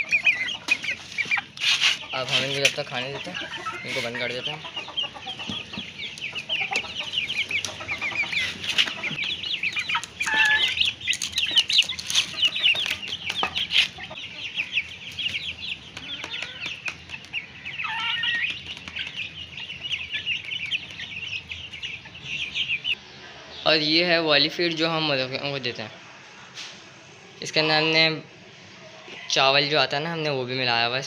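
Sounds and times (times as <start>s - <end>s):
chicks peeping: 0.0s - 31.0s
hens clucking: 0.0s - 31.0s.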